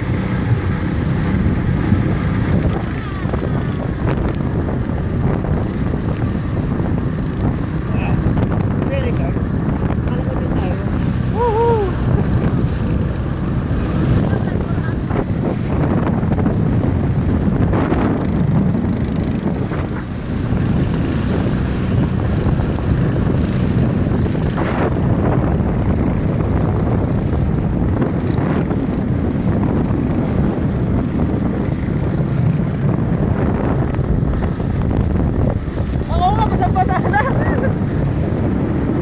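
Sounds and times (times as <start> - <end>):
motorboat engine running: 0.0 - 39.0
water splashes: 0.0 - 39.0
wind buffeting microphone: 0.0 - 39.0.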